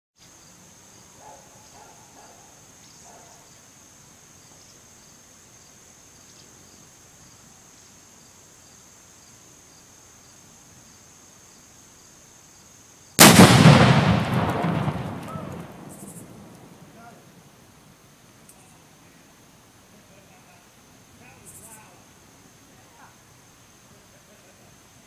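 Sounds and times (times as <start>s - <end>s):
insects chirring: 0.2s - 25.0s.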